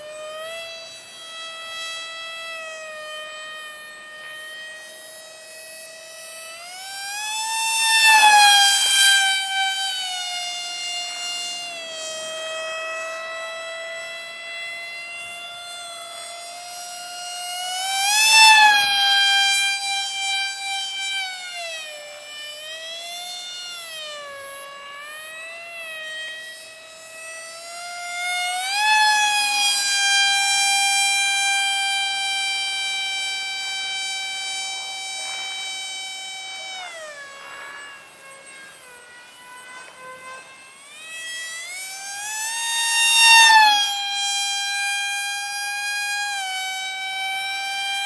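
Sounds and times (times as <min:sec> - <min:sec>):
electric motor and propeller whining: 0:00.0 - 0:48.0.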